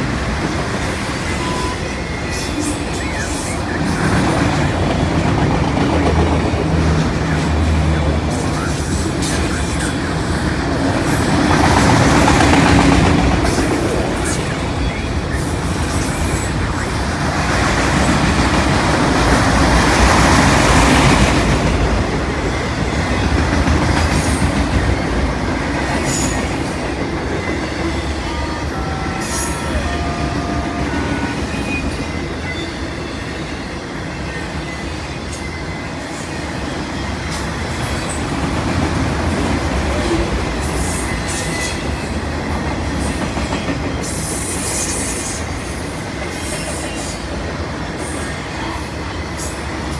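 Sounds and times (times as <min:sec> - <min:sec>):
freight train rumble and clatter: 0:00.0 - 0:49.9
train wheel squeals: 0:00.0 - 0:49.9.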